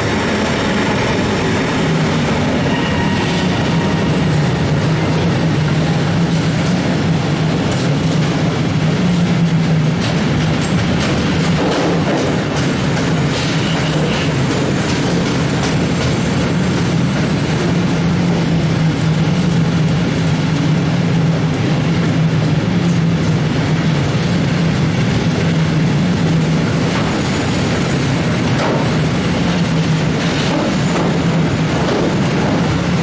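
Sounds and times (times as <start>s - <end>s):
freight train rumbling past: 0.0s - 33.0s
wheels rattling on rail: 0.0s - 33.0s.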